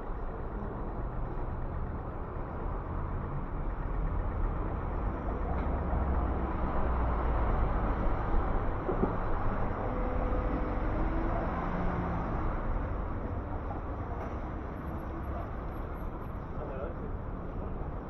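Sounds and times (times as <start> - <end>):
traffic engine rumble: 0.0 - 18.0.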